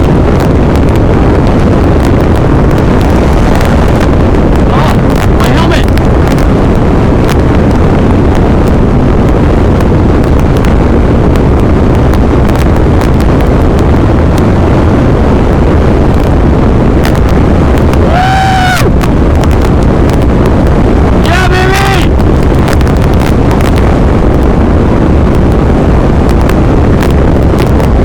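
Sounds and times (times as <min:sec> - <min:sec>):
motorcycle riding noise: 0:00.0 - 0:28.0
strong wind buffeting microphone: 0:00.0 - 0:28.0.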